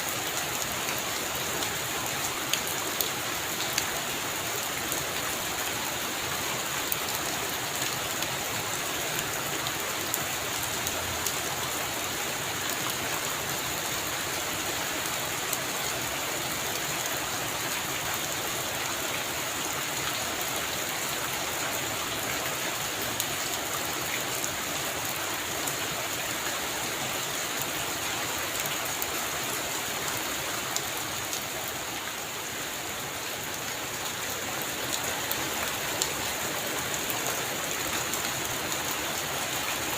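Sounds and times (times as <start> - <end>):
heavy rain drumming on a roof: 0.0 - 39.9.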